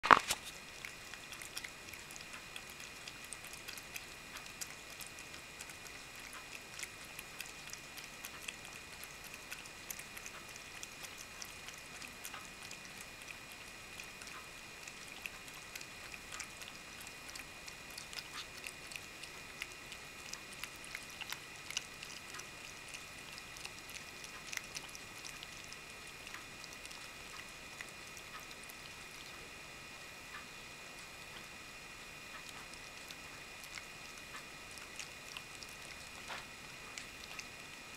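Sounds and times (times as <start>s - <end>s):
cat eating wet clicks: 0.0s - 29.5s, 30.3s - 31.6s, 32.2s - 37.9s
faint high whine: 0.0s - 37.9s.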